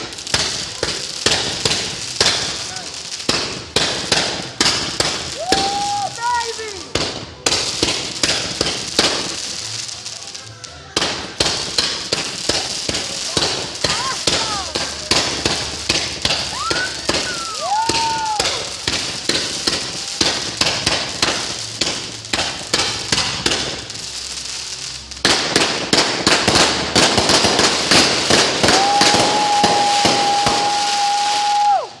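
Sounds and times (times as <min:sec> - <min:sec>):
firework whistles: 0:00.0 - 0:06.9, 0:11.2 - 0:32.0
firework crackling: 0:00.0 - 0:32.0
fireworks pops and cracks: 0:00.0 - 0:32.0.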